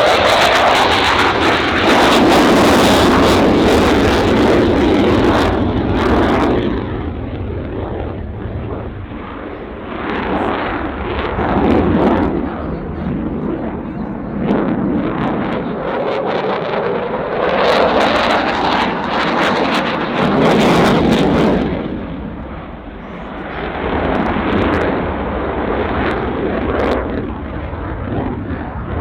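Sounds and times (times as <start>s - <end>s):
loud crackling jet noise: 0.0s - 29.0s.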